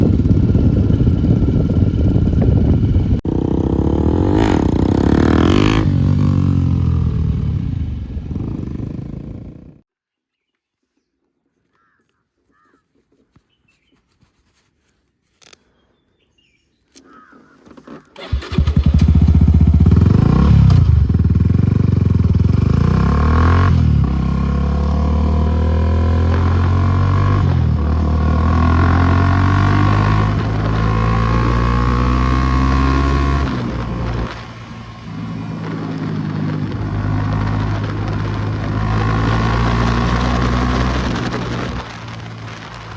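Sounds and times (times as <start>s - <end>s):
motorcycle engine revving: 0.0s - 9.8s, 18.2s - 42.9s.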